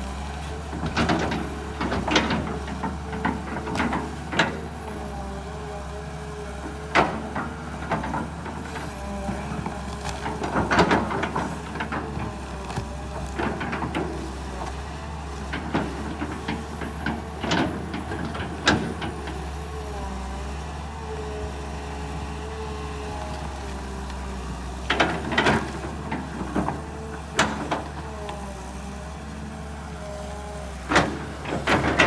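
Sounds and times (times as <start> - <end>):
excavator engine running: 0.0 - 32.0.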